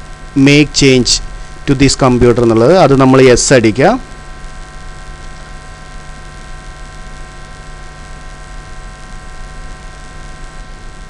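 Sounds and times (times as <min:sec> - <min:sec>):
electrical hum: 0:00.0 - 0:11.0
low hiss: 0:00.0 - 0:11.0.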